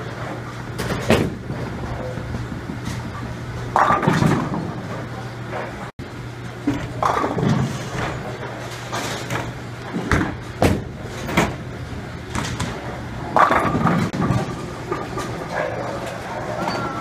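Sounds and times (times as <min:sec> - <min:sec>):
bowling balls and pins clattering: 0:00.0 - 0:05.9, 0:06.5 - 0:17.0
steady low hum: 0:00.0 - 0:17.0.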